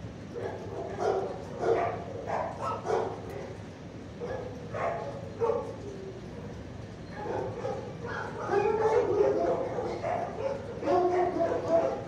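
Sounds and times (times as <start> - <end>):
dogs barking and yipping: 0.3 - 5.8, 7.0 - 12.0.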